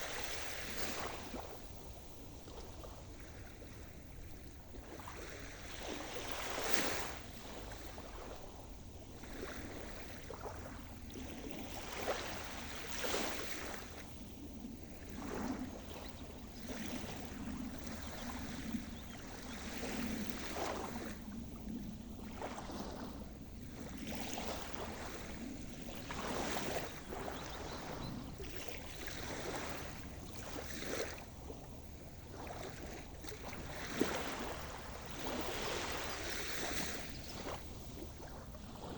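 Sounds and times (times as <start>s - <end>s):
small waves washing in: 0.0s - 38.9s.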